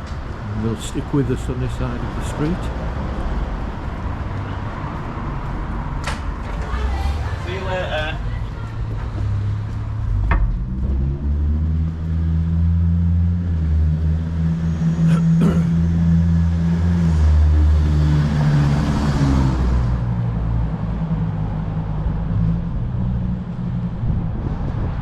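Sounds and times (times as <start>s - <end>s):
vehicle engine humming: 0.0s - 25.0s
vehicle passing: 0.4s - 25.0s.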